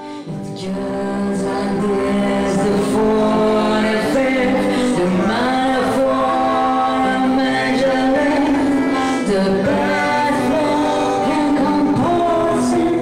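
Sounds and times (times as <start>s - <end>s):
woman singing into microphone: 0.0s - 13.0s.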